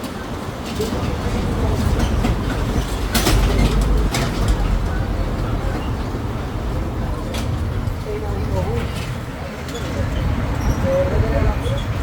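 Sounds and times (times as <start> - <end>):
road train rumbling on road: 0.0 - 12.0.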